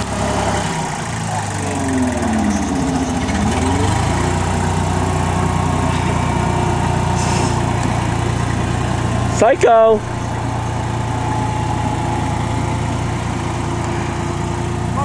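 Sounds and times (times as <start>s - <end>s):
bulldozer engine running: 0.0s - 15.0s.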